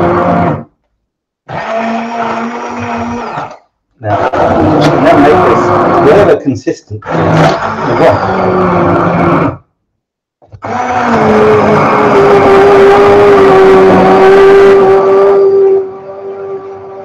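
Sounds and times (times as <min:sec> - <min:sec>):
stick blender motor whine: 0:00.0 - 0:00.8, 0:01.4 - 0:06.4, 0:07.0 - 0:09.7, 0:10.4 - 0:17.0.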